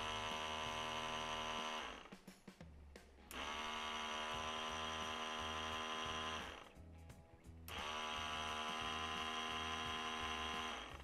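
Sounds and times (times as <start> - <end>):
electric pump motor whine: 0.0 - 2.1, 3.3 - 6.8, 7.7 - 11.0.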